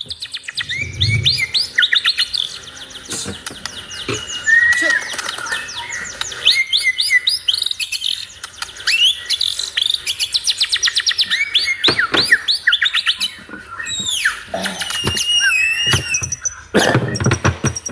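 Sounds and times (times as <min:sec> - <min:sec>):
songbird whistling and chipping: 0:00.0 - 0:17.9.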